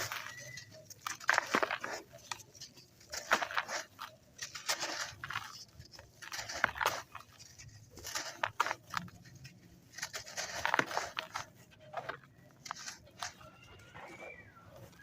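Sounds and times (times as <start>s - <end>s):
sand clumps crunching: 0.0s - 15.0s.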